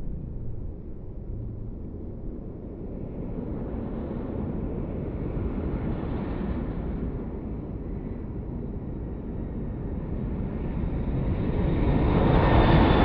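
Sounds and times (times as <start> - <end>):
jet airliner engine rumble: 0.0 - 13.0.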